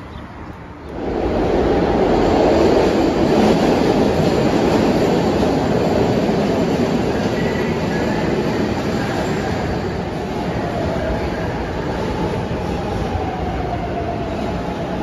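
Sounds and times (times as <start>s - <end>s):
subway train wheels on rails: 0.0s - 15.0s.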